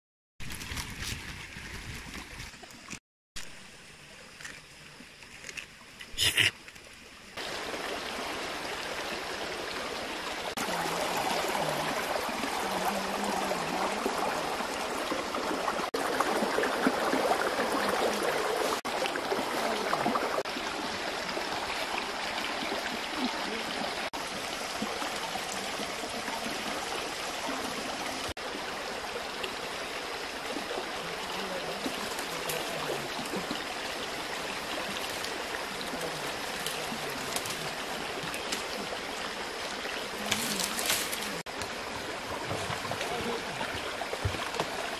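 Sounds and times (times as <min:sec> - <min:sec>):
running water rushing: 0:00.4 - 0:44.9.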